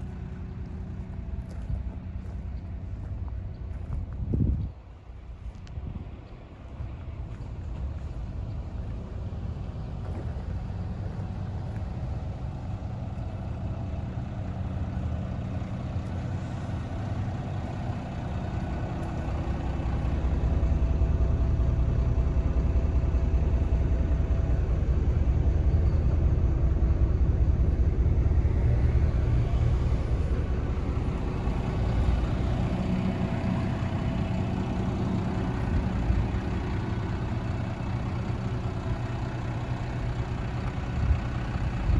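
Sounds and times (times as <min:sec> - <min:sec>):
truck diesel engine running: 0:00.0 - 0:41.9.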